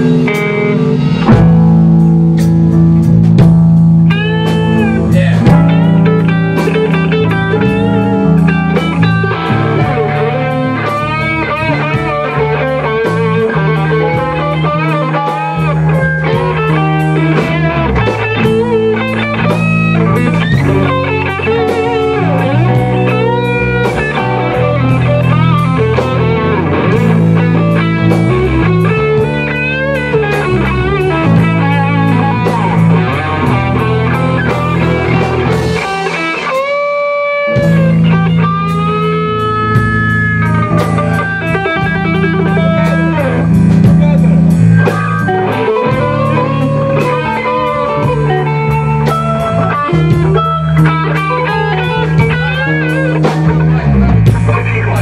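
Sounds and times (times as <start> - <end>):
electric guitar lead with bent notes: 0.0 - 55.0
rock band playing live: 0.0 - 55.0.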